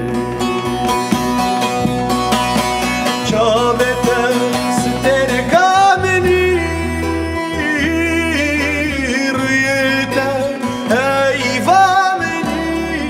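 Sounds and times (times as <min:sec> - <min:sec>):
person singing: 0:00.0 - 0:02.0, 0:02.6 - 0:13.0
plucked strings: 0:00.0 - 0:13.0
steady bass line: 0:00.0 - 0:13.0.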